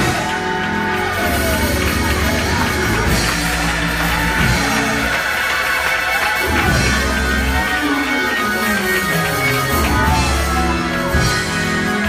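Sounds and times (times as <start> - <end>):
church band playing: 0.0 - 12.0
drums: 0.0 - 12.0
guitar: 0.0 - 12.0.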